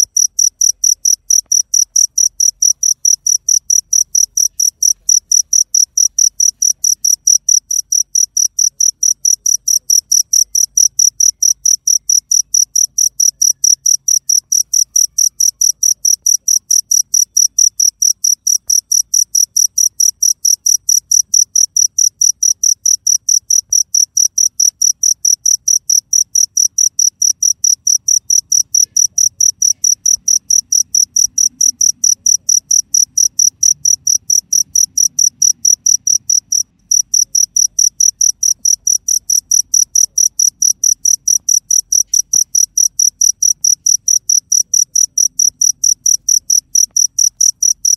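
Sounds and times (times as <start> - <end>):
cricket chirping: 0.0 - 47.9.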